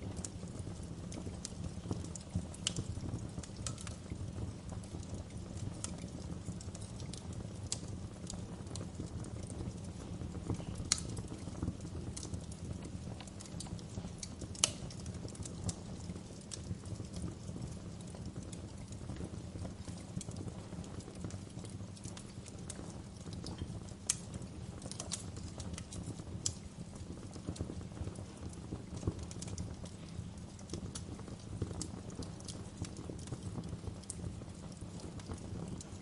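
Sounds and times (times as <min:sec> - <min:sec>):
low rumble of flames: 0:00.0 - 0:36.0
sharp pops from fire: 0:00.0 - 0:36.0
wood fire crackling: 0:00.0 - 0:36.0.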